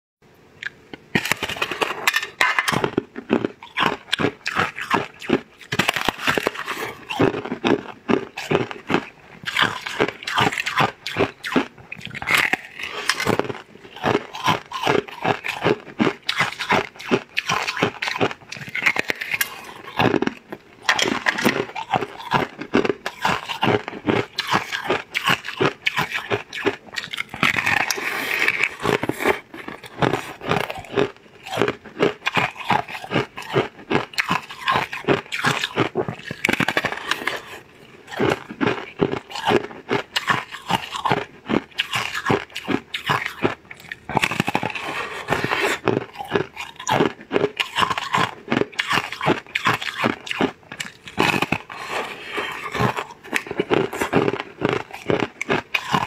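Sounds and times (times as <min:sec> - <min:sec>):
crackling crunchy bites: 0:00.6 - 0:56.0.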